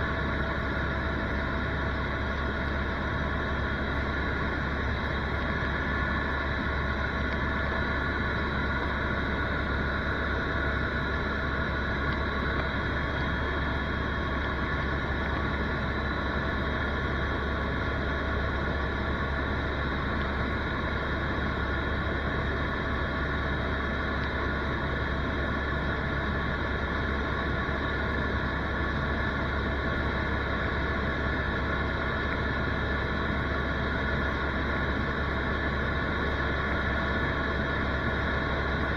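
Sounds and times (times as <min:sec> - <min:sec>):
helicopter engine and rotors drone: 0:00.0 - 0:38.9.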